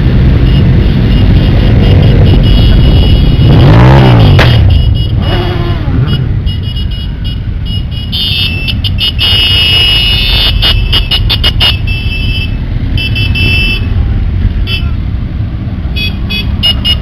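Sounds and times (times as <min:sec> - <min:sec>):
motorcycles passing by: 0:00.0 - 0:09.3, 0:10.2 - 0:17.0.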